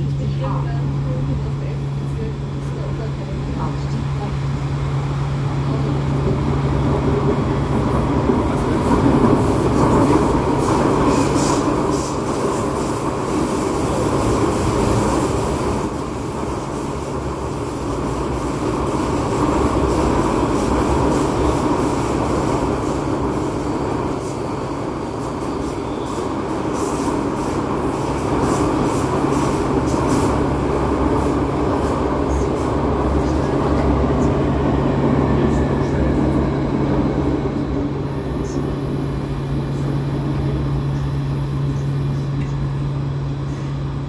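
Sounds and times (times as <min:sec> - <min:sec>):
metro wheels rumbling on rails: 0:00.0 - 0:44.0.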